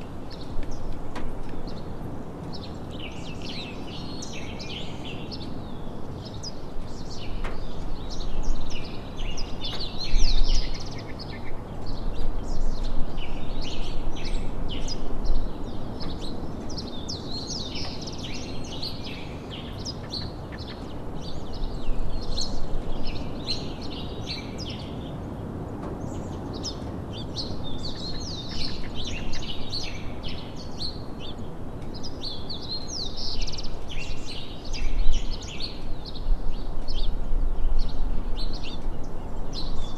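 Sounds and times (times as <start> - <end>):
many birds chirping: 0.0 - 39.9
outdoor background hiss: 0.0 - 39.9.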